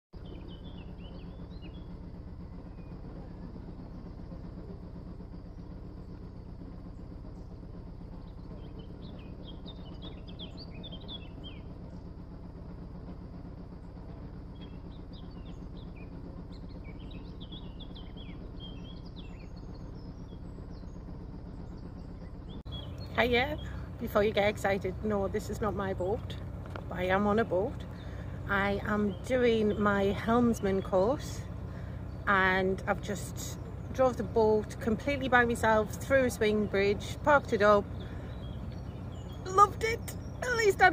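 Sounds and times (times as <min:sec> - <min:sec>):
boat engine running: 0:00.1 - 0:40.9
small birds chirping: 0:00.2 - 0:12.2, 0:13.8 - 0:40.9.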